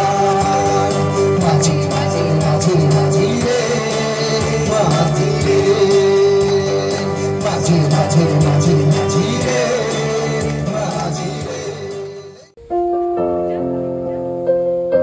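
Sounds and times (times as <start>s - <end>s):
group singing worship song: 0.0s - 12.5s
electronic keyboard: 0.0s - 15.0s.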